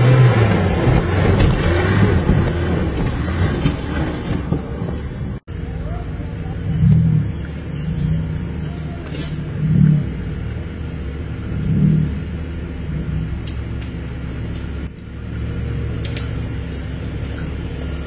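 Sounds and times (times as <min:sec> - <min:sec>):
suv engine at low revs: 0:00.0 - 0:18.0.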